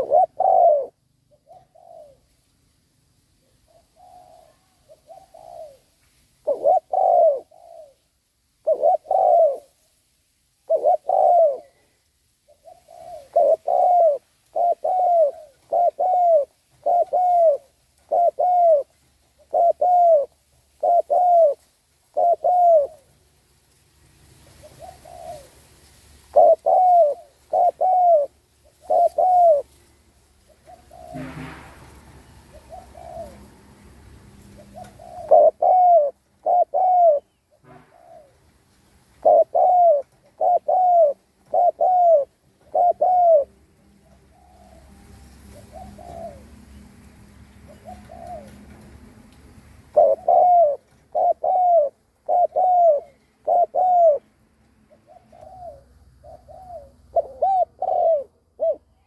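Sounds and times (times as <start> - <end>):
dove cooing: 0.0 - 2.3, 3.4 - 9.8, 10.6 - 23.2, 24.4 - 25.7, 26.3 - 29.8, 30.4 - 31.4, 32.2 - 33.8, 34.5 - 38.4, 39.2 - 46.9, 47.6 - 49.2, 49.8 - 54.3, 54.9 - 59.0.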